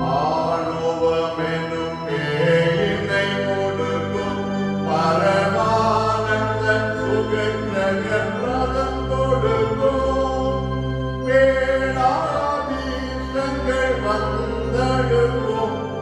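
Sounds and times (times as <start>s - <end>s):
low instrumental accompaniment: 0.0s - 16.0s
voices singing a hymn: 0.0s - 16.0s.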